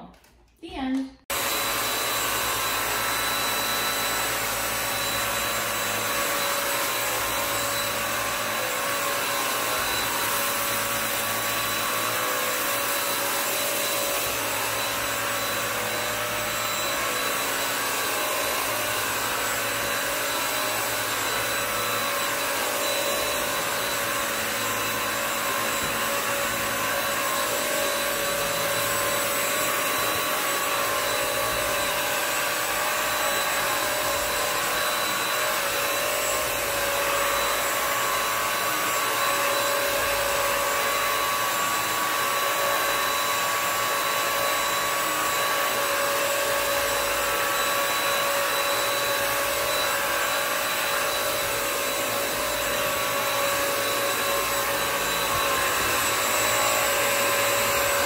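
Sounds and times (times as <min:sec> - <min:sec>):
vacuum mop running: 0:01.3 - 0:58.0.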